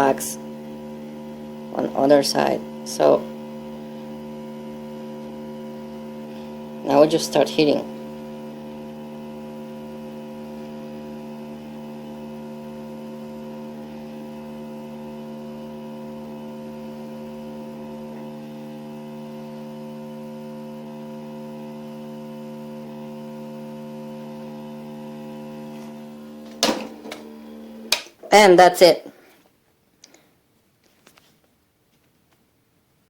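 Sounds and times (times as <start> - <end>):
hot air blower humming: 0.0 - 29.0.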